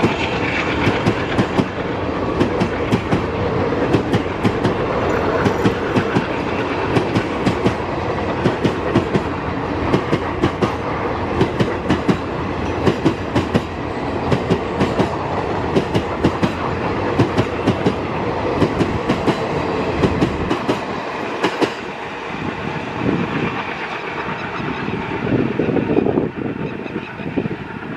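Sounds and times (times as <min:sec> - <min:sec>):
train rumble: 0:00.0 - 0:27.9
train wheels clicking on rail joints: 0:00.0 - 0:27.9.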